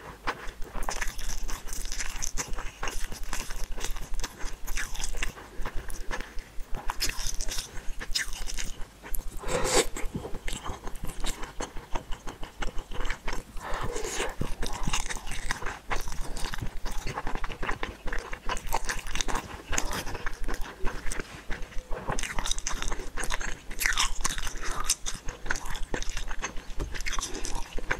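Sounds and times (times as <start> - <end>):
wet chewing: 0.2 - 27.9.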